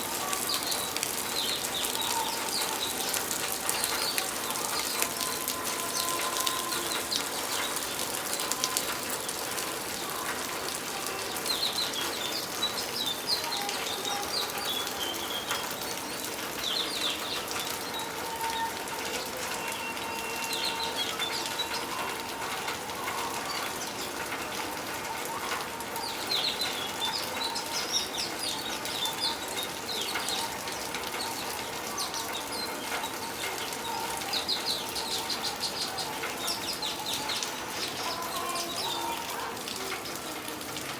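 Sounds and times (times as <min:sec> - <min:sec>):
small birds chirping: 0:00.0 - 0:40.2
steady rain falling: 0:00.0 - 0:40.9.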